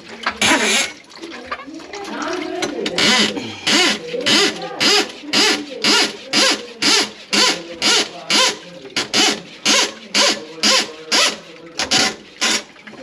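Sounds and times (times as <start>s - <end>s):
sink plunger gurgling: 0.0s - 13.0s.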